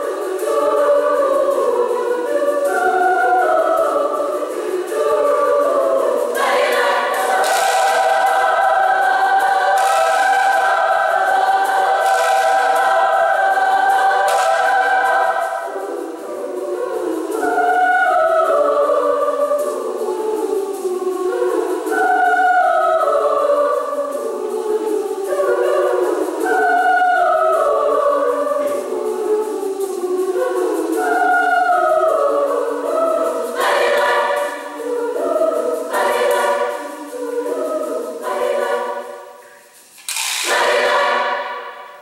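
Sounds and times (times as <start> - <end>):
women's choir singing: 0.0 - 42.0.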